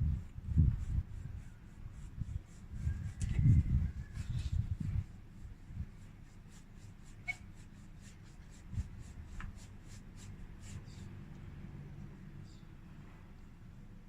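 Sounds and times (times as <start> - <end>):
paintbrush strokes on paper: 0.0 - 11.3.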